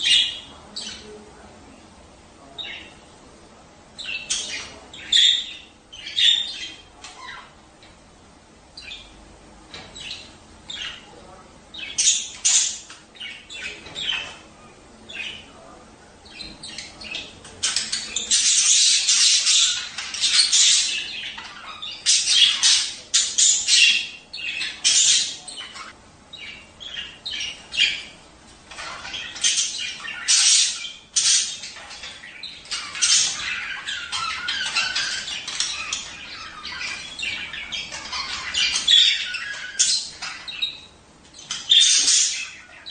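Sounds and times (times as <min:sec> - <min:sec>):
budgerigars chattering and squawking: 0:00.0 - 0:01.3, 0:02.4 - 0:03.1, 0:04.0 - 0:07.8, 0:08.7 - 0:42.9.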